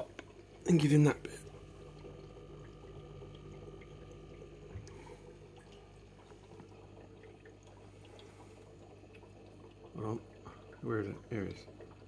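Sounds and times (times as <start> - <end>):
aquarium water hum and trickle: 0.0 - 12.0.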